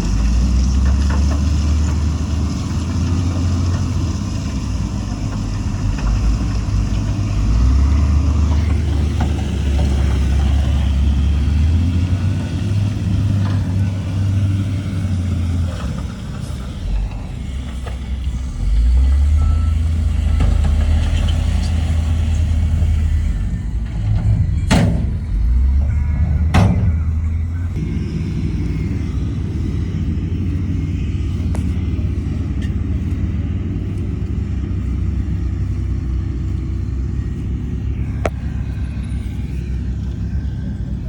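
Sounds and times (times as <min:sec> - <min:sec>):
heavy diesel engine under load: 0:00.0 - 0:41.0.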